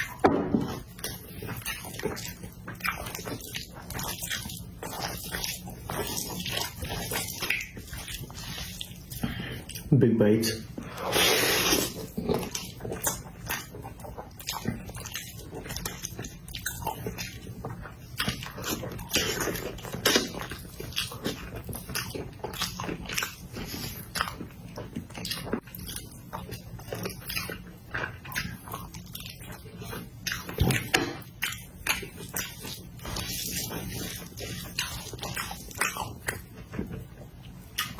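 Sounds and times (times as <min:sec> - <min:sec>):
wet chewing: 0:00.0 - 0:09.9, 0:10.5 - 0:37.9.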